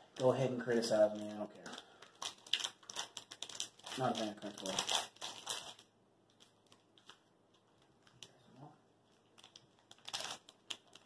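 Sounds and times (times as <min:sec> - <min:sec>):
foil wrapper crinkling: 0:00.0 - 0:08.5, 0:09.1 - 0:11.0.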